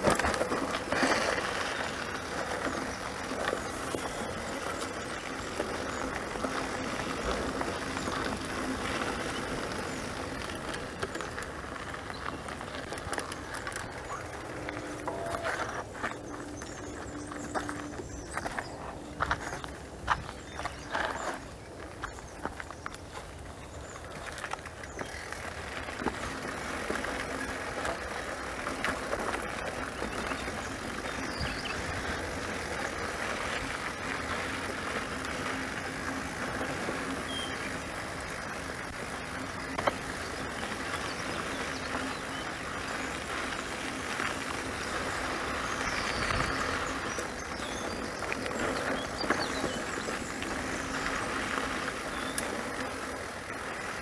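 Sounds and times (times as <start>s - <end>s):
bike rattles and clicks: 0.0s - 54.0s
bike tyres on dirt: 0.0s - 54.0s.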